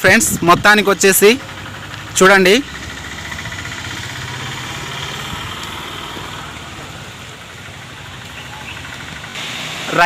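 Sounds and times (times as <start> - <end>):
engine running at low revs: 0.0 - 10.0.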